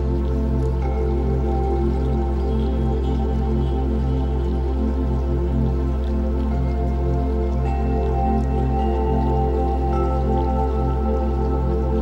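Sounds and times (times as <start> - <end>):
new-age music with drone: 0.0 - 12.0.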